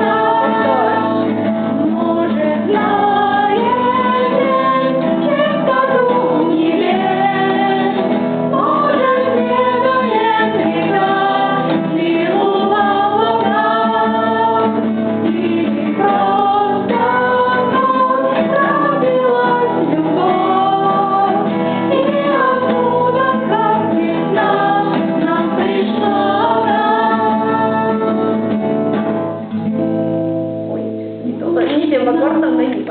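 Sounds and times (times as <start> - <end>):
woman singing: 0.0 - 28.5
plucked guitar: 0.0 - 32.9.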